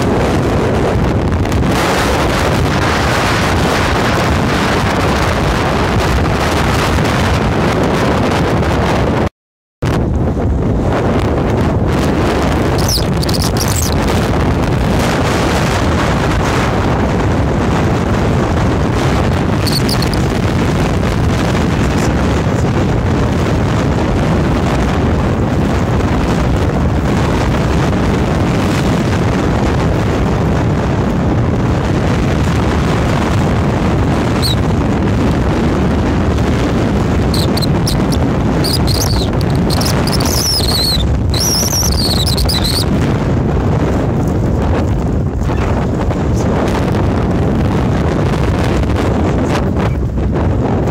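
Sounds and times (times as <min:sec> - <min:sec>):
strong wind on microphone: 0:00.0 - 0:50.9.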